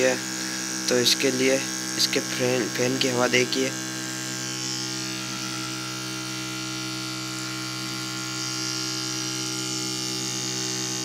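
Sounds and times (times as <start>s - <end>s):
small electric fan whirring: 0.0s - 11.0s.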